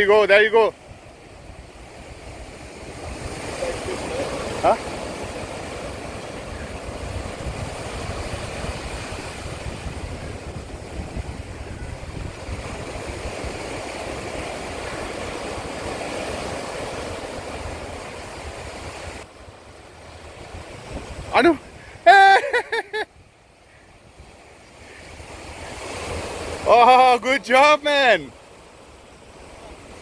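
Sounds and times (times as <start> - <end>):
surf breaking over rocks: 0.0 - 22.9, 25.1 - 30.0.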